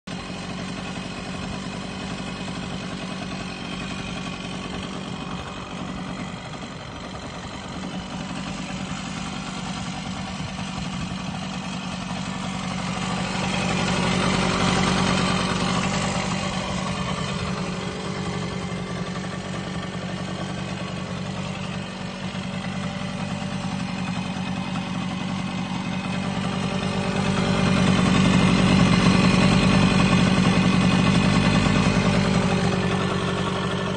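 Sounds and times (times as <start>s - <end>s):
three-wheeler engine idling: 0.0s - 33.9s.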